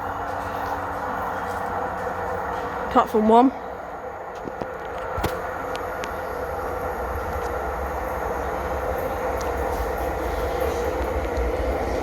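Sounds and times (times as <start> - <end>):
train rumbling: 0.0 - 12.0
train whine: 0.0 - 12.0.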